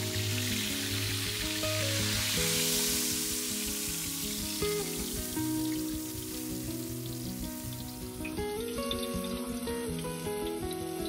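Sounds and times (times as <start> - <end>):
background music with held notes: 0.0 - 11.0
meat sizzling on a grill: 0.0 - 11.0.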